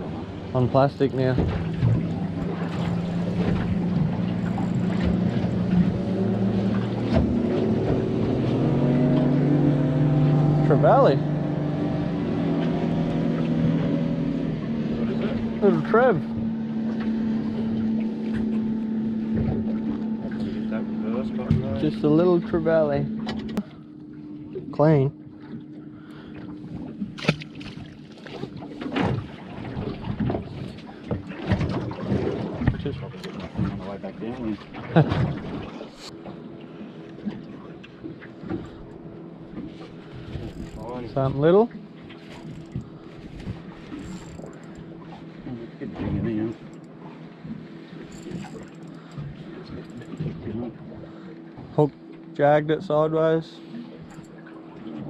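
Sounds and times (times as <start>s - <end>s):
outboard motor running: 0.0s - 55.0s
water lapping against boat hull: 0.0s - 55.0s.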